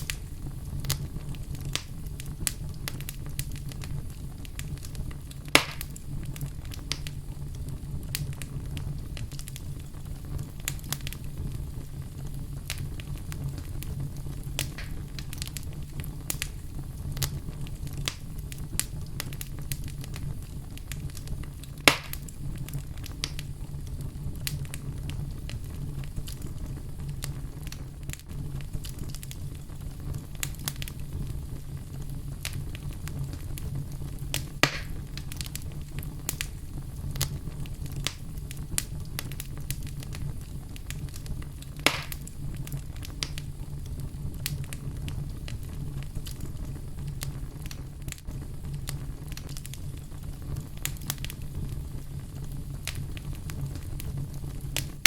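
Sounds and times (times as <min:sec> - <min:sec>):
fire crackling and popping: 0:00.0 - 0:55.0
low rumble of flame: 0:00.0 - 0:55.0.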